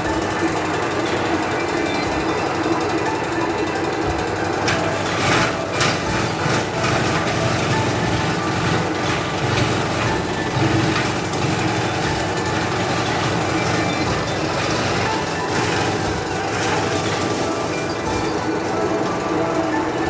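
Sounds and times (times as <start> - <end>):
grass chopper running: 0.0 - 20.0
sharp clatters: 0.0 - 20.0.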